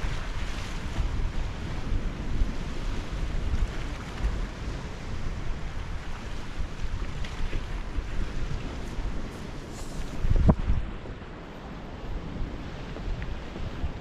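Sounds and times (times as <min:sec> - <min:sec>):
small waves breaking on rocks: 0:00.0 - 0:14.0
wind buffeting the microphone: 0:00.0 - 0:14.0.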